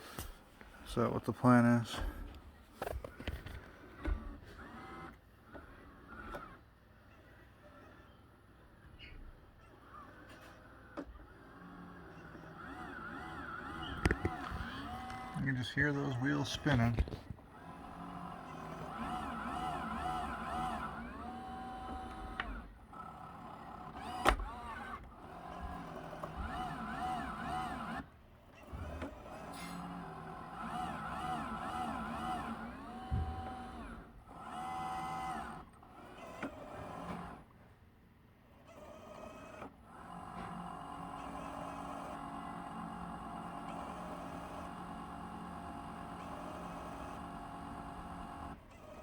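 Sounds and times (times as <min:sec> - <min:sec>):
robot vacuum wheel motors whining: 0:00.0 - 0:37.5, 0:38.5 - 0:49.0.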